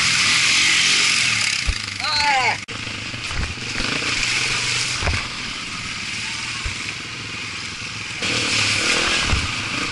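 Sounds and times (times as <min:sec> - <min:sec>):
dirt bike engine running: 0:00.0 - 0:09.9.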